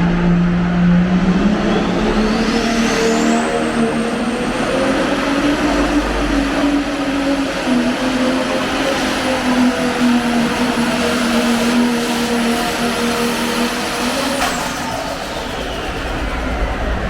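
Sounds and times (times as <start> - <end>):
tractor engine running hard: 0.0 - 17.0.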